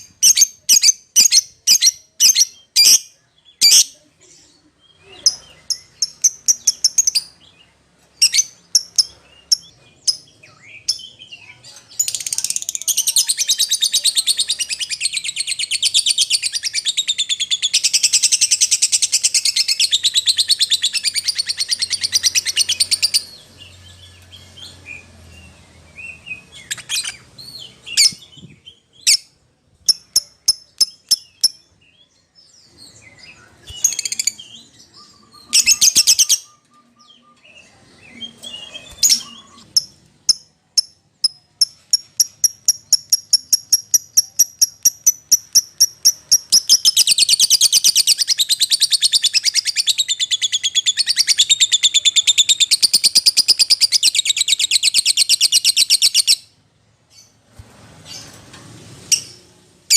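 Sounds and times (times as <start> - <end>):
lovebird chirping: 0.0 - 57.4.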